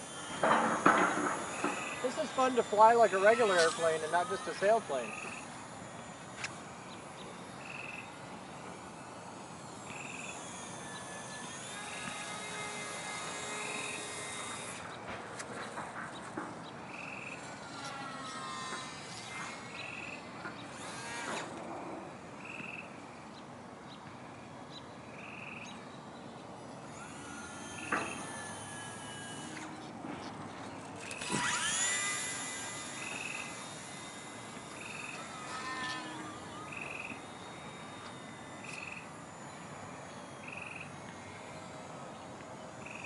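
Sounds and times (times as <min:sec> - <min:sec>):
model plane motor whining: 0:00.0 - 0:23.3, 0:24.1 - 0:43.0.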